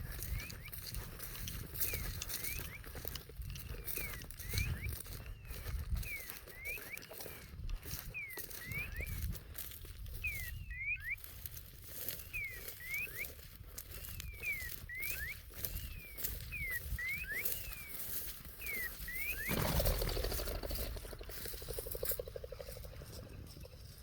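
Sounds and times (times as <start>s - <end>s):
bird whistling calls: 0.1s - 22.9s.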